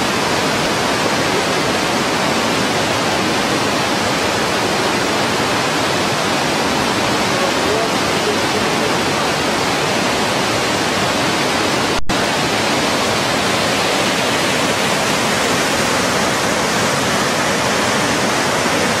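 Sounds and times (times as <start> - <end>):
waterfall and rapids roaring: 0.0 - 19.0.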